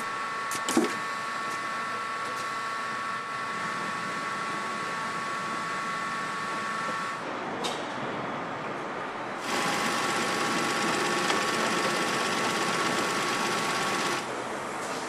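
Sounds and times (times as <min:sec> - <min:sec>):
motorcycle engine mechanical whir: 0:00.0 - 0:08.3, 0:09.3 - 0:15.0.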